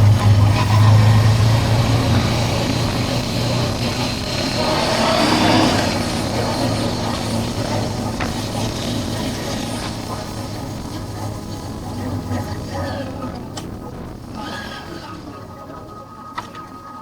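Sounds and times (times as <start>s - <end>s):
motorcycle engine running: 0.0s - 15.2s
road noise: 0.0s - 17.0s.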